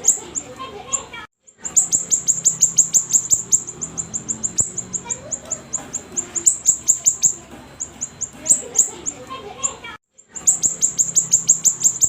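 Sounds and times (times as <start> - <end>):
songbird high chirps: 0.0 - 12.0.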